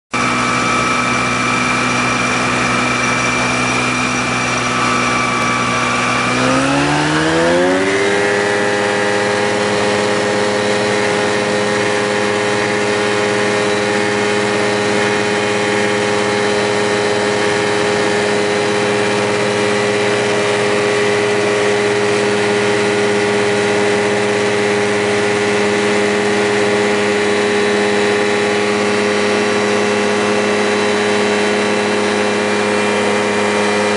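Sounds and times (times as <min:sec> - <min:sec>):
light aircraft engine and propeller: 0:00.1 - 0:33.9.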